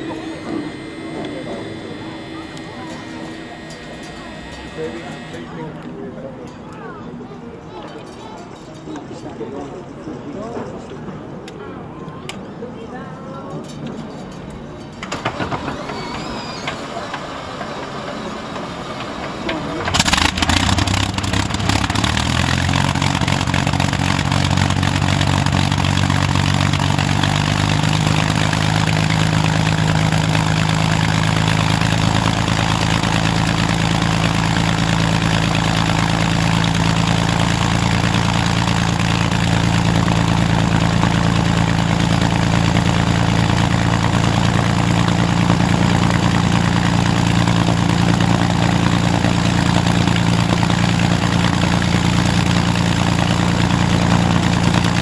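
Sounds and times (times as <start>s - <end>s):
aero engine running: 0.0s - 6.1s, 14.1s - 55.0s.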